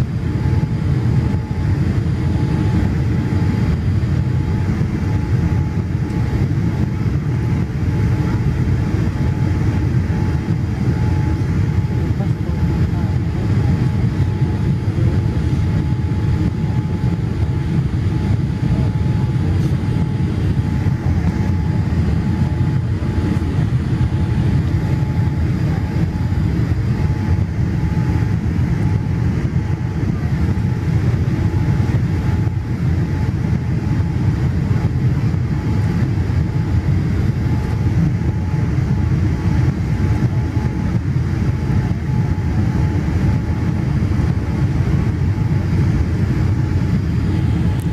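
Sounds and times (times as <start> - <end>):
airliner cabin rumble: 0.0 - 47.9
faint steady whine: 0.0 - 47.9.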